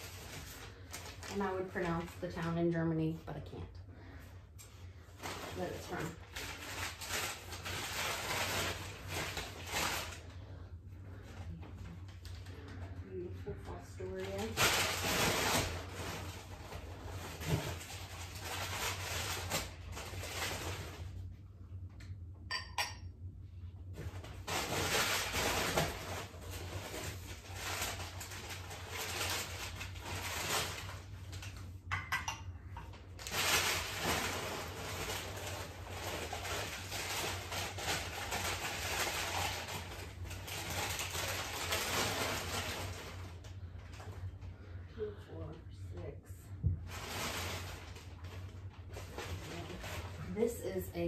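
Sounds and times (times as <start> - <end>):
paper rustling and crinkling: 0.0 - 2.8, 5.0 - 21.3, 23.9 - 31.8, 33.0 - 44.8, 46.8 - 50.8.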